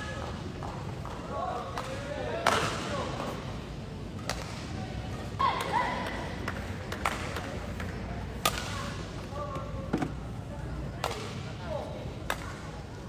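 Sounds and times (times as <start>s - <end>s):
large hall background noise: 0.0s - 13.0s.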